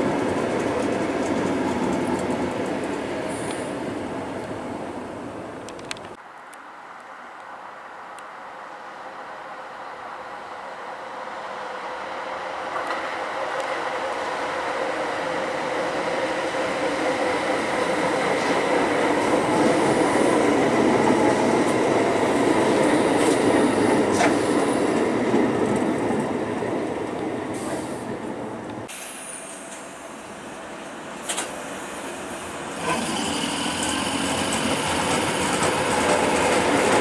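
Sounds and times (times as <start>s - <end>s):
train wheels on rail: 0.0s - 6.2s, 7.9s - 37.0s.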